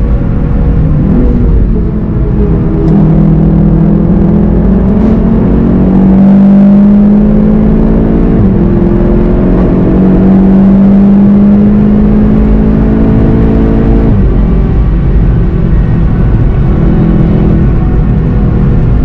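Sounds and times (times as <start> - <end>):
car engine accelerating: 0.0 - 19.0
tyre and road rumble: 0.0 - 19.0.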